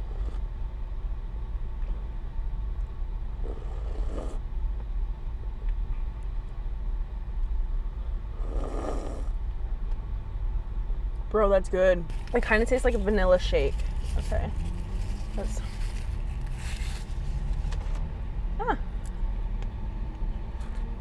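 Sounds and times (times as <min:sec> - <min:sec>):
low car rumble: 0:00.0 - 0:21.0.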